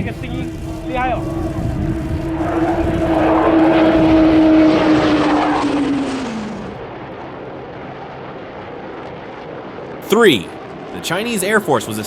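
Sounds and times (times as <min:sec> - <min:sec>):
aircraft flying past: 0:00.0 - 0:12.0.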